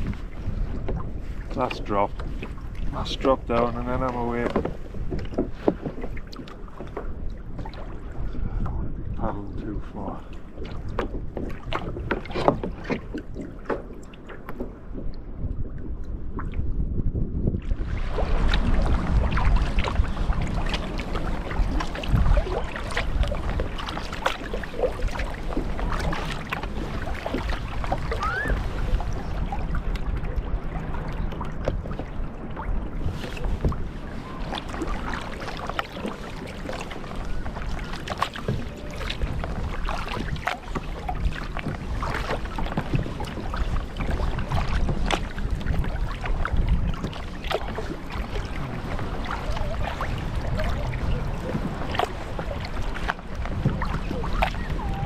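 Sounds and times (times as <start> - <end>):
paddle splashing in water: 0.0 - 55.0
water lapping along hull: 0.0 - 55.0
wind rumbling on microphone: 0.0 - 55.0.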